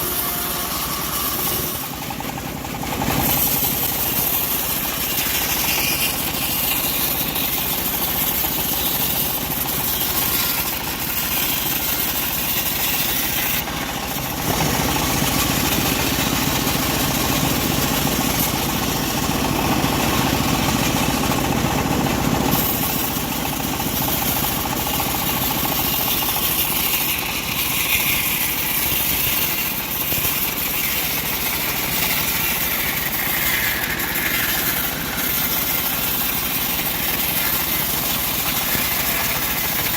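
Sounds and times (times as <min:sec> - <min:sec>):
bandsaw sawmill cutting log: 0:00.0 - 0:39.9.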